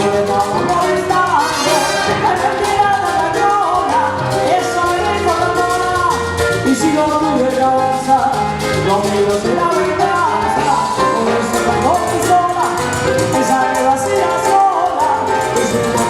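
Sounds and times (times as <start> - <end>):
live salsa band playing: 0.0 - 16.0.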